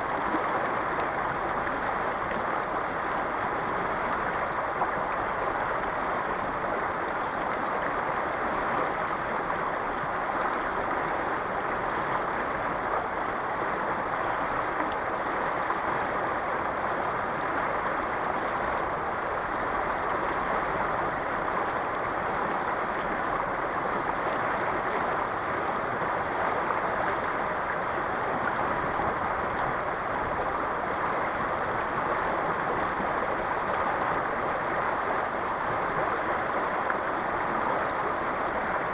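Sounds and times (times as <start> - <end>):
fast river current rushing: 0.0 - 38.9.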